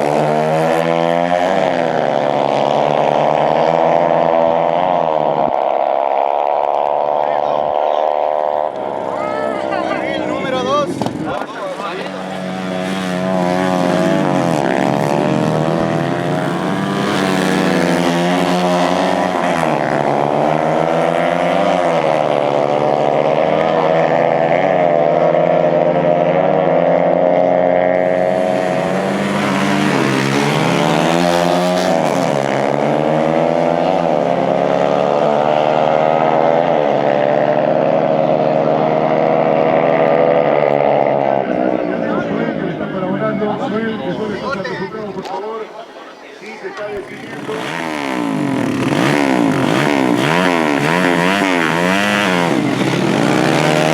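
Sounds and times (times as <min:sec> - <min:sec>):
steady engine drone: 0:00.0 - 0:45.8, 0:46.7 - 0:53.9
dirt bike engines revving: 0:00.0 - 0:53.9.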